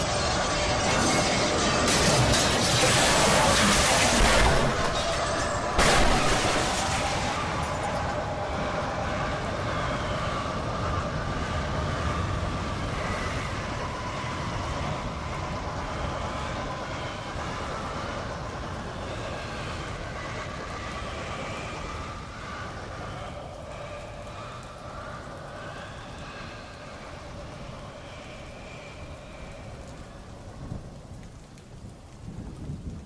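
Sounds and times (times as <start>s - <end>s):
faint wavering howls: 0.0s - 31.5s
rushing wind and low rumble: 0.0s - 33.0s.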